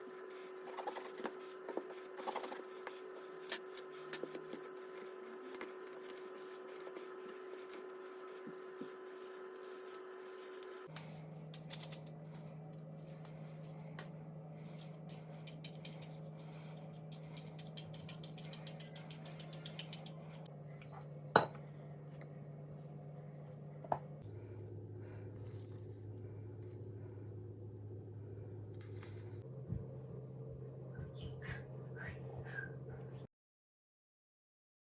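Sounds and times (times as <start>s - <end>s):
steady hum: 0.0s - 33.3s.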